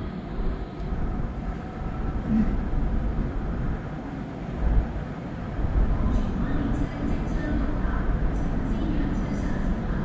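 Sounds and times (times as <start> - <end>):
train rumbling on elevated track: 0.0 - 10.0.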